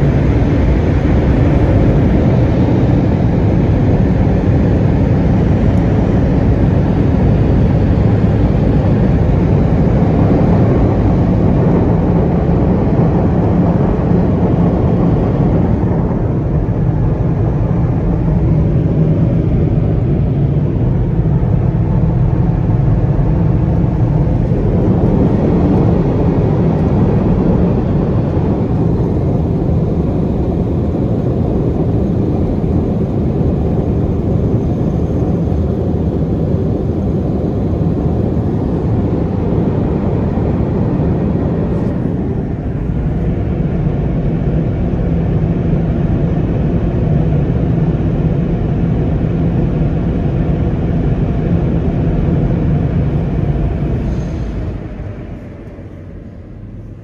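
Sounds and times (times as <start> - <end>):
car wash blower dryers rushing air: 0.0 - 57.0.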